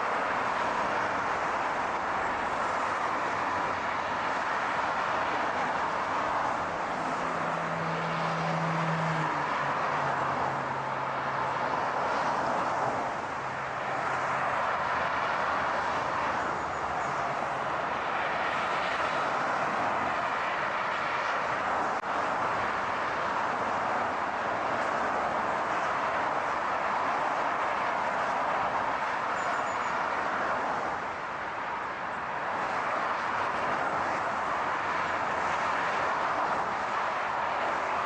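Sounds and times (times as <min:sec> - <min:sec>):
road and engine rush: 0:00.0 - 0:38.0.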